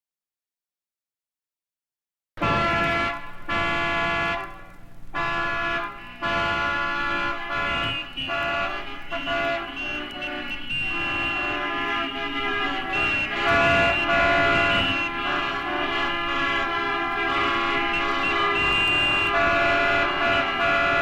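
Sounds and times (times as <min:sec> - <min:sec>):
vehicle horns blasting: 0:02.4 - 0:21.0.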